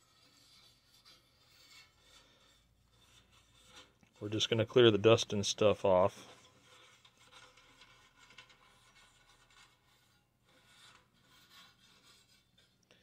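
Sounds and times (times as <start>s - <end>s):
brush sweeping sheet metal: 0.0s - 13.0s.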